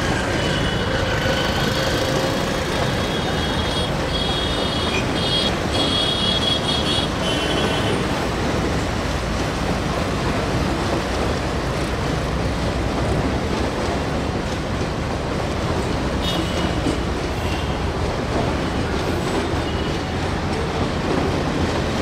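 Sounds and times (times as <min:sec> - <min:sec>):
freight train rumbling on rails: 0:00.0 - 0:22.0
road traffic: 0:00.0 - 0:22.0.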